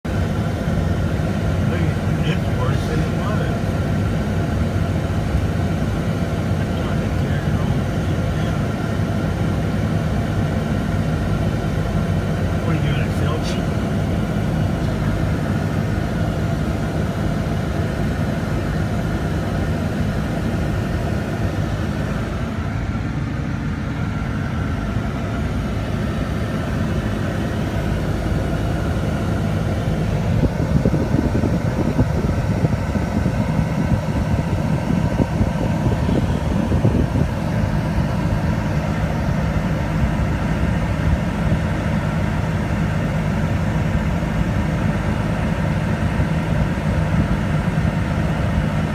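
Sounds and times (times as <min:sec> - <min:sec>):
low engine hum: 0:00.0 - 0:48.9
road rumble: 0:00.0 - 0:48.9.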